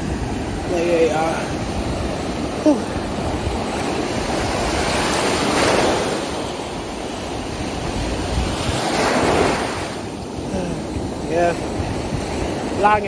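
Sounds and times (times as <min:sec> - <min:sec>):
ocean surf washing ashore: 0:00.0 - 0:13.0
wind buffeting microphone: 0:00.0 - 0:13.0.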